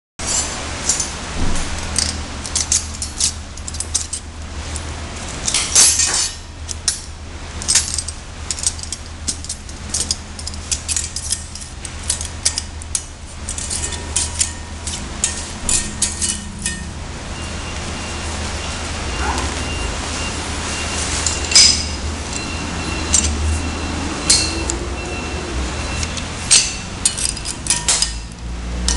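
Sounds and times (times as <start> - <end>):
metal strapping clinking and scraping: 0.2 - 28.9
steady low hum: 0.2 - 28.9.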